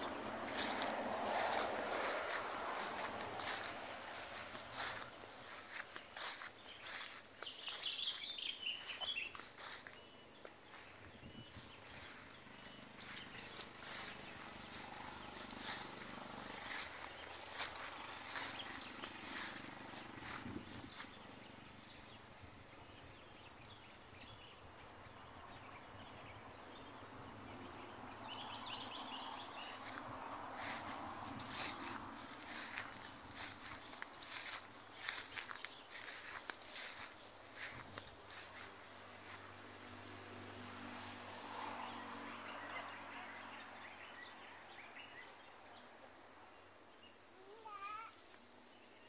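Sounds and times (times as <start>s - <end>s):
insects chirring: 0.0s - 49.0s.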